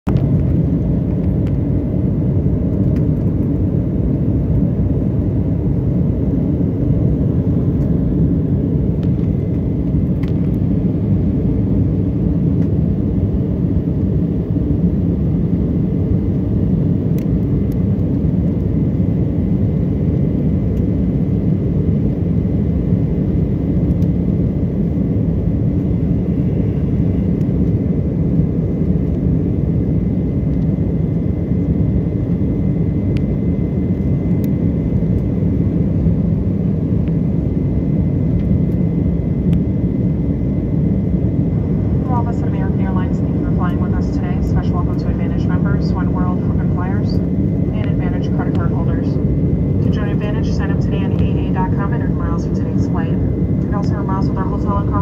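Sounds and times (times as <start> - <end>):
jet engines and airflow rumble: 0.0 - 55.0.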